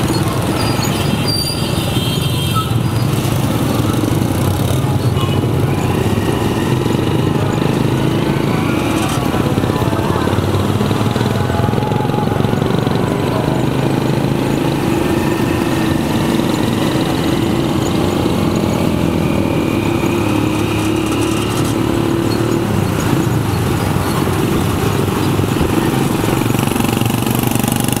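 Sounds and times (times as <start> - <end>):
street traffic: 0.0 - 28.0
motorcycle engine running: 2.8 - 28.0.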